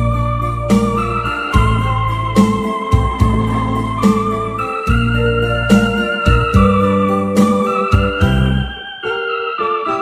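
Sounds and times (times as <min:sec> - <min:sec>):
electronic organ pop melody: 0:00.0 - 0:10.0
organ rhythm beat: 0:00.0 - 0:10.0.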